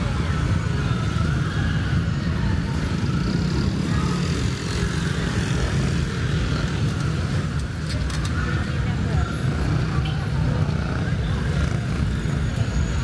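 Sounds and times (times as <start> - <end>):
passing motor traffic rumble: 0.0 - 13.0.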